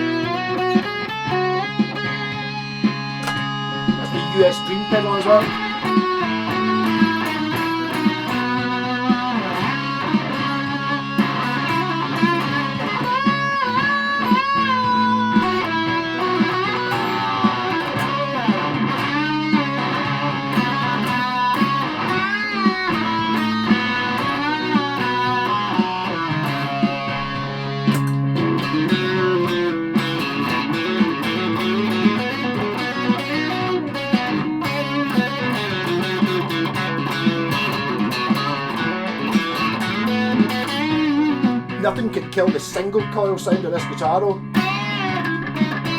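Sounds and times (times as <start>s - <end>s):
fuzzy electric guitar melody: 0.0s - 45.9s.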